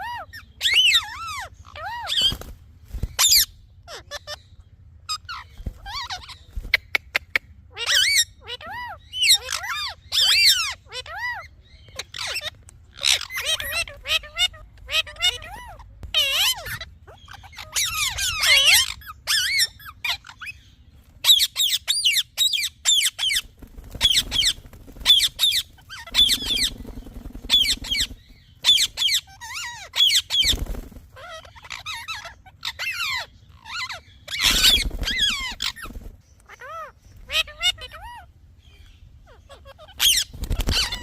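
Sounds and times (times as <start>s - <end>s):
parrot chirping and squeaking: 0.0s - 2.4s, 3.0s - 41.0s.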